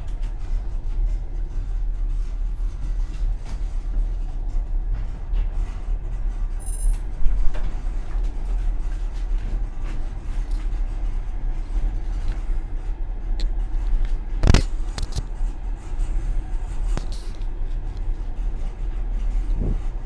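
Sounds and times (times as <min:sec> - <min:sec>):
train car rumbling on track: 0:00.0 - 0:20.0
train wheels clacking over rails: 0:00.0 - 0:20.0.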